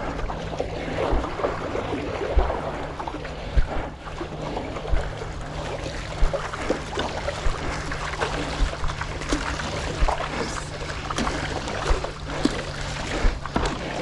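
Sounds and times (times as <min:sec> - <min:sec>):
water sloshing and splashing: 0:00.0 - 0:14.0
wind buffeting microphone: 0:00.0 - 0:14.0.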